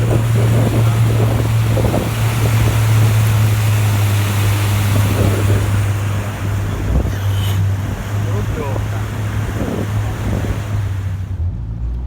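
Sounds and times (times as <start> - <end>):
rushing water: 0.0 - 11.9
boat motor humming: 0.0 - 12.0
wind noise: 0.0 - 12.0.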